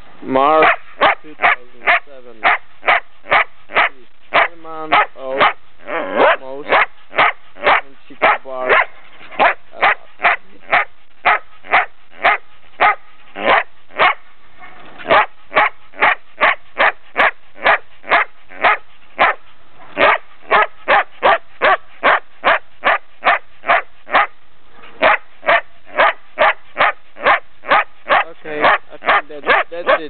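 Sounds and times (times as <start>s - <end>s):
dog barking: 0.6s - 30.0s.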